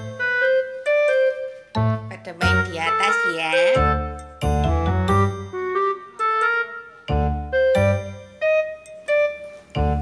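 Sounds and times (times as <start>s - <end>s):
keyboard melody: 0.0s - 10.0s.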